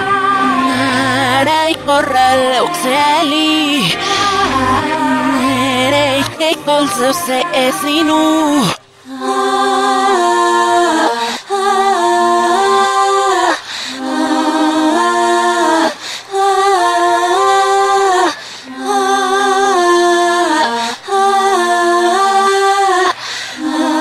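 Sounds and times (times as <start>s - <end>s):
reversed female a cappella singing: 0.0s - 24.0s.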